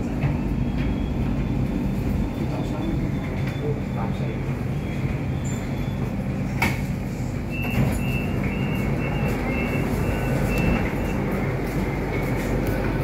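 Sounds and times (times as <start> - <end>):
train low hum: 0.0 - 13.0.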